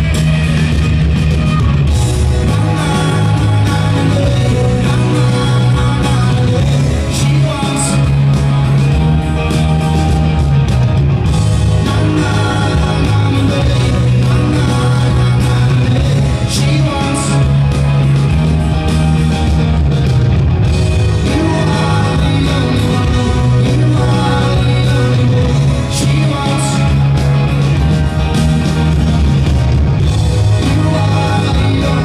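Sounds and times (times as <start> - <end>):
live rock band playing: 0.0 - 32.0
person singing: 1.2 - 10.6, 11.2 - 18.9, 21.0 - 28.3, 30.2 - 32.0.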